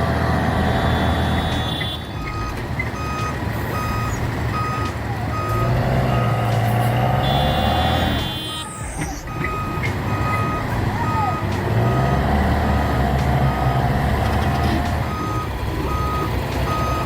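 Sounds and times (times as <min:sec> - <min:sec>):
diesel engine revving: 0:00.0 - 0:17.0
reversing alarm beeping: 0:00.8 - 0:17.0.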